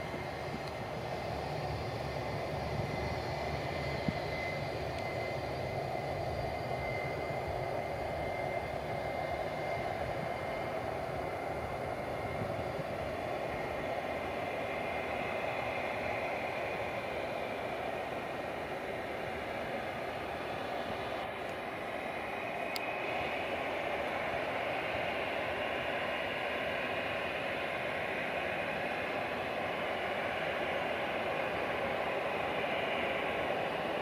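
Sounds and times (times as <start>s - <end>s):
distant jet engines running: 0.0s - 34.0s.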